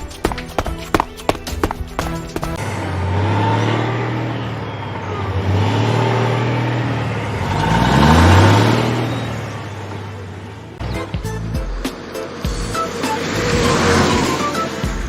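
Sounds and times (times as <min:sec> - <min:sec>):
car engine revving: 0:00.9 - 0:15.0.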